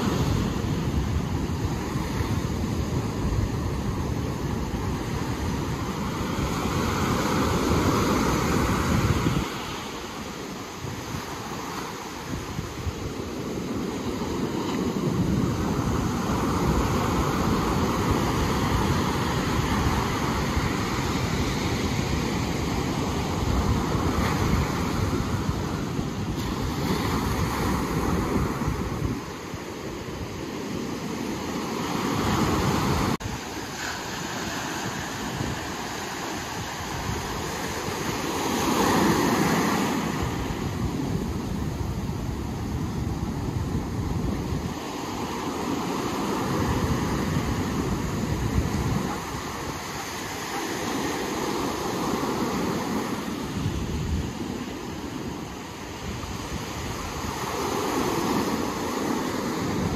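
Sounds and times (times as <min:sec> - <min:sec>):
ocean surf washing ashore: 0:00.0 - 0:59.9
wind buffeting microphone: 0:00.0 - 0:59.9.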